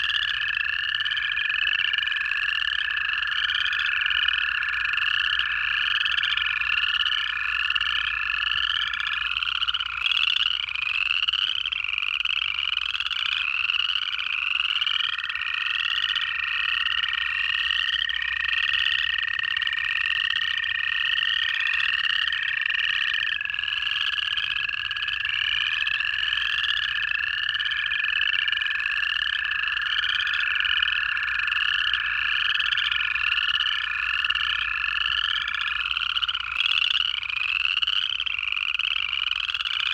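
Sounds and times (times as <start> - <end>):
chorus frogs trilling: 0.0 - 39.9
toads trilling: 0.0 - 39.9.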